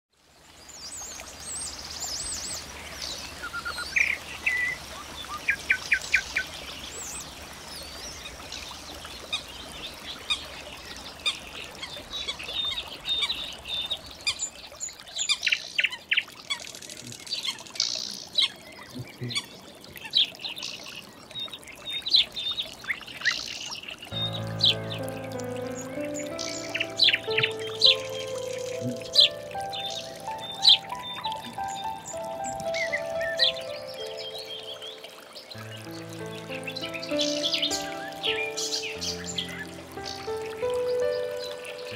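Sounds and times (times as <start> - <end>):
songbirds singing and calling: 0.4 - 41.9.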